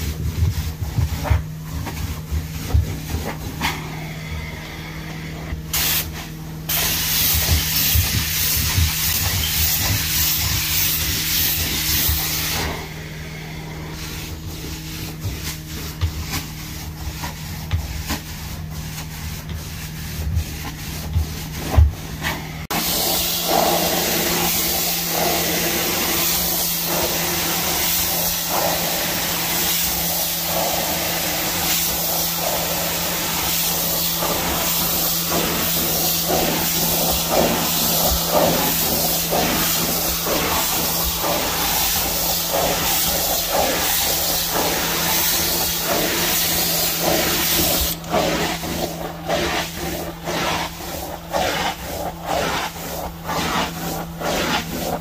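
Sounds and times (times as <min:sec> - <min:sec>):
hiss of spray and suction: 0:03.6 - 0:15.5, 0:22.7 - 0:55.0.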